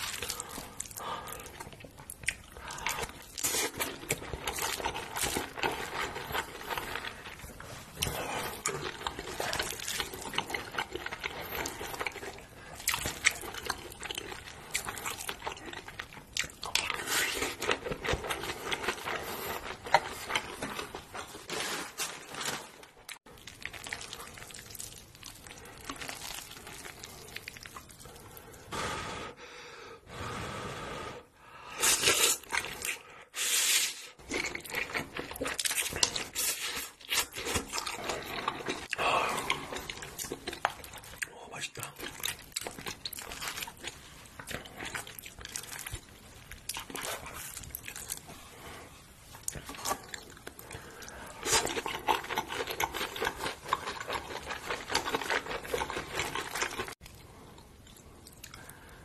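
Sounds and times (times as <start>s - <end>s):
wet chewing and smacking: 0.0s - 21.5s, 23.0s - 28.7s, 31.9s - 33.1s, 34.1s - 59.0s.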